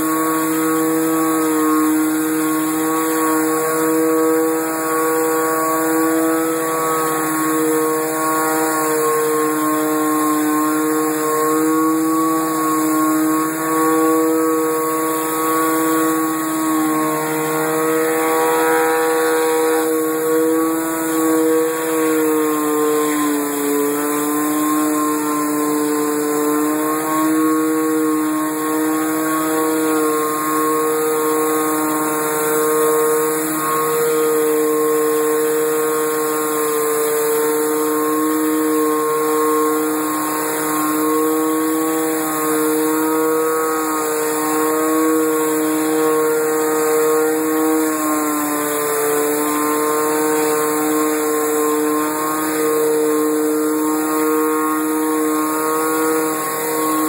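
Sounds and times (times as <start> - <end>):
pressure washer engine running: 0.0 - 57.0.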